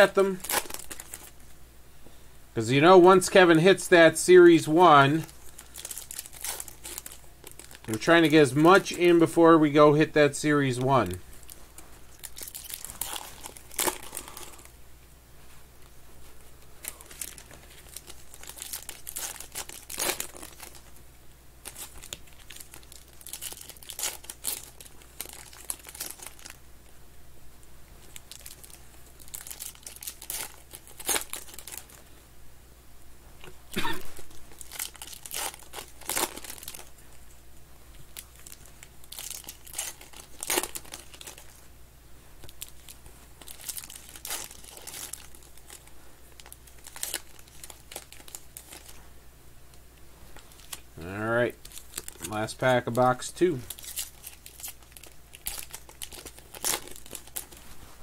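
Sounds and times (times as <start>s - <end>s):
foil wrappers crinkling and tearing: 0.0s - 1.5s, 2.7s - 14.7s, 16.8s - 21.0s, 21.6s - 26.6s, 28.0s - 32.0s, 33.8s - 37.3s, 37.9s - 41.6s, 42.4s - 49.0s, 50.3s - 58.0s.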